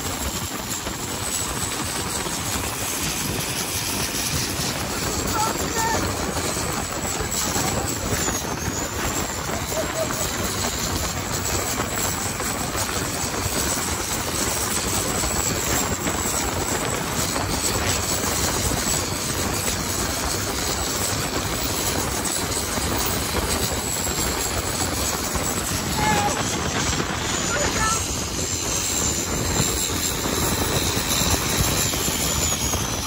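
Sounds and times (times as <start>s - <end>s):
boat engine running at speed: 0.0s - 33.0s
rushing wind: 0.0s - 33.0s.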